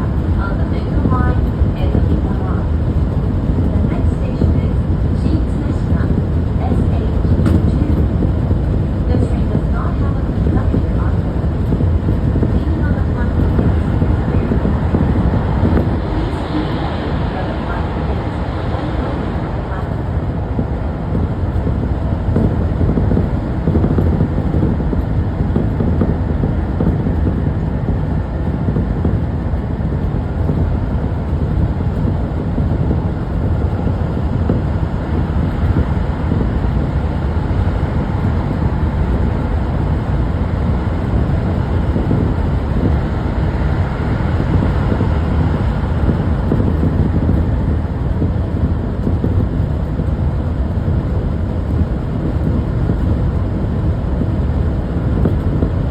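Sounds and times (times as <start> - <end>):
subway train rumbling: 0.0 - 55.9.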